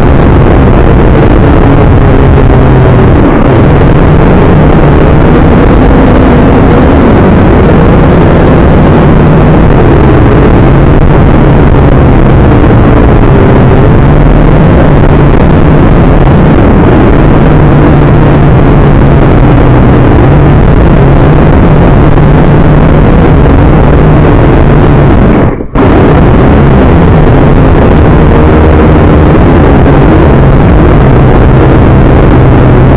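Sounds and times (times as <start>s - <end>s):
drone propellers whirring: 0.0s - 32.9s.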